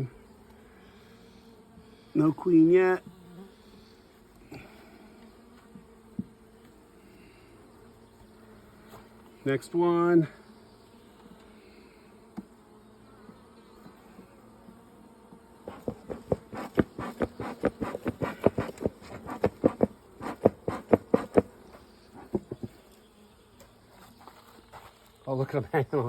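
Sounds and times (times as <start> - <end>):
honeybees buzzing: 0.0 - 25.2.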